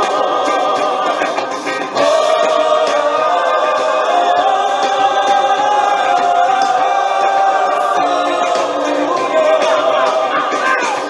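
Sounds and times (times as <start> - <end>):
choir-like singing music: 0.0 - 11.0.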